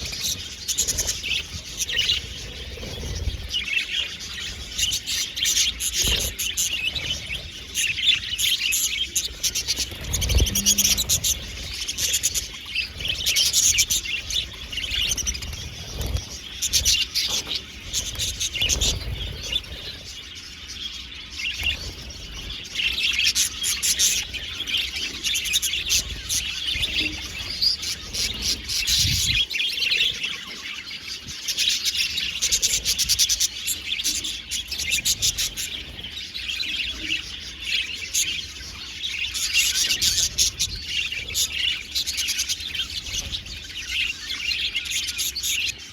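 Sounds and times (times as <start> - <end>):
budgerigars chirping: 0.0 - 45.9.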